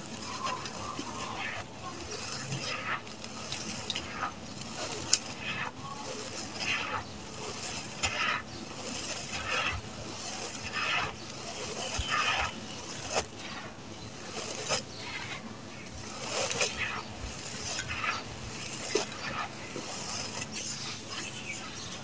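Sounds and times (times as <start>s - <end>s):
grit clicking: 0.0s - 22.0s
sand-cement mix crumbling: 0.0s - 22.0s.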